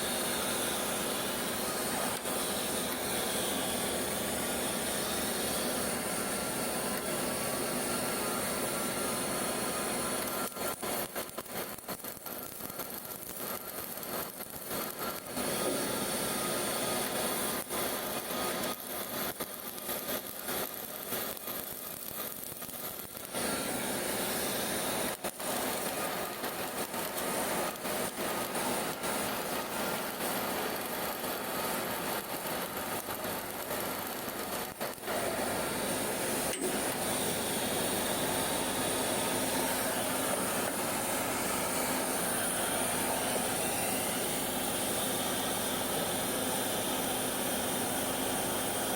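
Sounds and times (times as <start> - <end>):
arc welding crackling and sizzling: 0.0 - 48.9.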